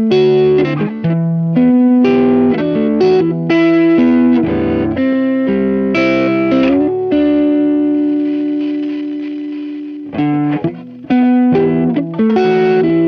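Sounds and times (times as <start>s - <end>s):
overdriven electric guitar: 0.0s - 13.0s.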